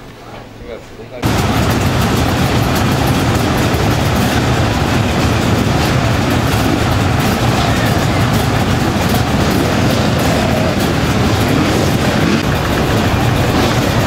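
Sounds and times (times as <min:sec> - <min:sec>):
many motorcycle engines running: 0:01.2 - 0:14.0.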